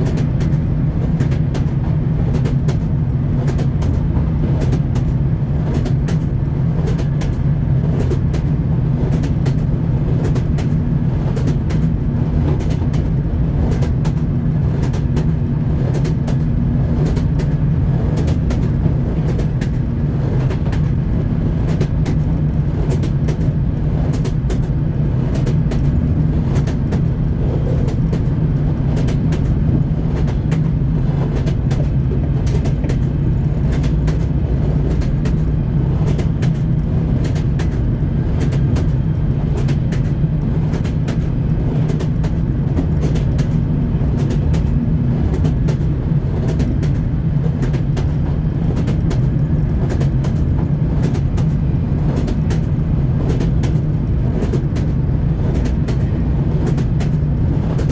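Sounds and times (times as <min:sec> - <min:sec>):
train wheels clattering over rail joints: 0:00.0 - 0:57.9.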